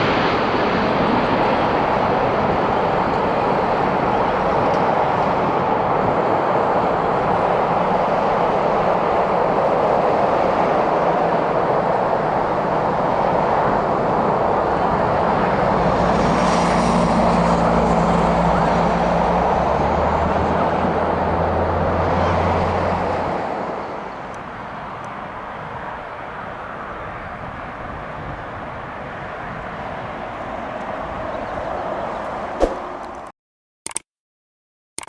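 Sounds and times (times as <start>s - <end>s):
jet airliner passing overhead: 0.0s - 33.3s.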